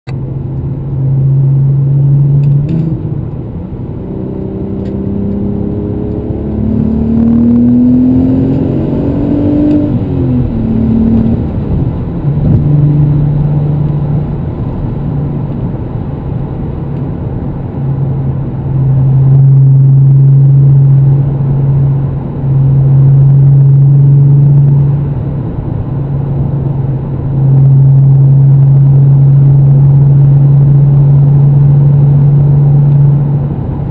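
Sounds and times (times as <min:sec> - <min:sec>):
car exhaust drone in cabin: 0:00.1 - 0:33.9.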